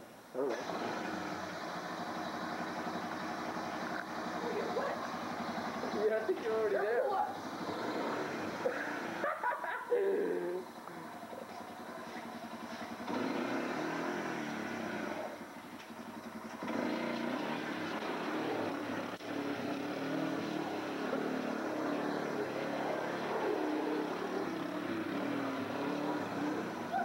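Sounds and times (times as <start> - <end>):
atv engine revving: 0.0 - 27.0.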